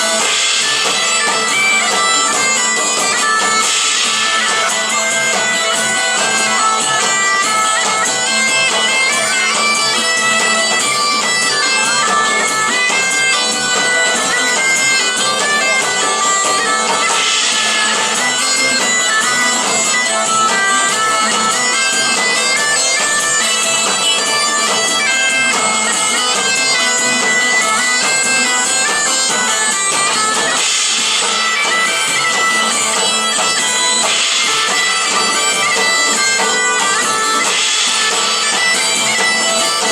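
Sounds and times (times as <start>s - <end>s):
bagpipes playing a melody: 0.0s - 39.9s
live band music: 0.0s - 39.9s.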